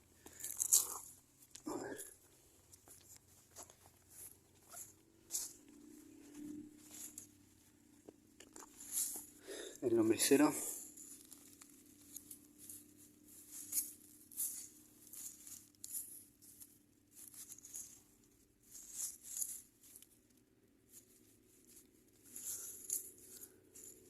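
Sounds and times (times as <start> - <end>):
hands rummaging through soil: 0.0 - 24.0.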